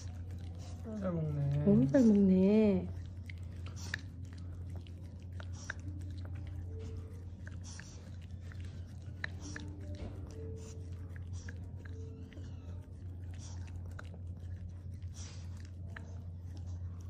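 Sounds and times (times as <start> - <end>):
dog licking spoon: 0.0 - 17.0
low steady hum: 0.0 - 17.0.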